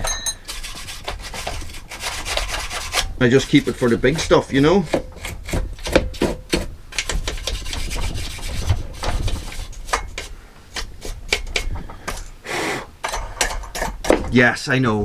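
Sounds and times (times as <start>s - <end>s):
scratchy scraping strokes: 0.4s - 12.9s.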